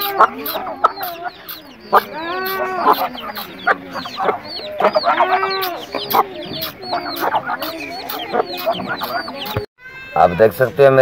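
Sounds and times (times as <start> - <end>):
chicks peeping: 0.0 - 9.7
hen clucking: 0.0 - 9.7.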